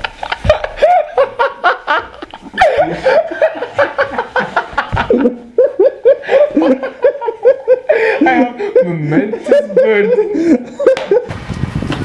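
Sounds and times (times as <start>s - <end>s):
people laughing: 0.0s - 11.3s
young man laughing hard: 0.0s - 11.3s.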